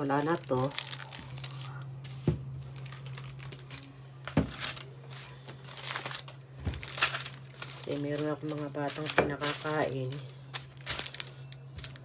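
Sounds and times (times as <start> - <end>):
crinkly rustling of hands: 0.0 - 12.0
steady low hum: 0.0 - 12.0.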